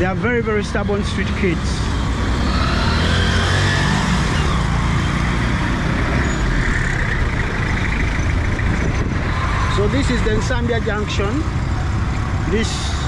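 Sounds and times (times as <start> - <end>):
car and truck engines passing: 0.0 - 13.0.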